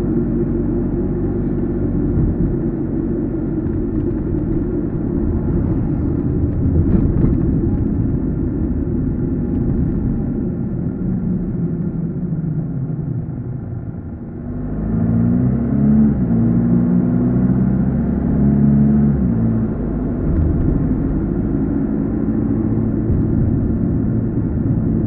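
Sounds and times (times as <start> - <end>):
tyre and road rumble: 0.0 - 17.2, 18.0 - 25.0
car engine drone: 0.0 - 25.0.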